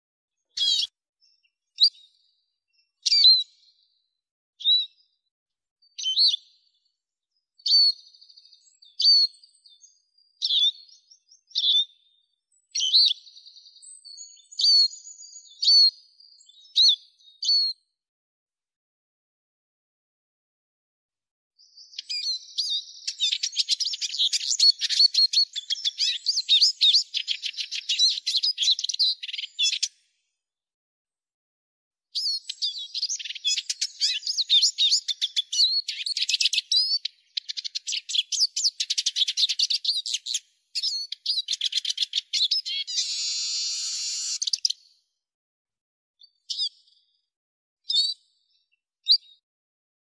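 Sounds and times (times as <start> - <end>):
bird twittering song: 0.4 - 17.9, 21.6 - 30.1, 32.2 - 45.0, 46.2 - 49.4.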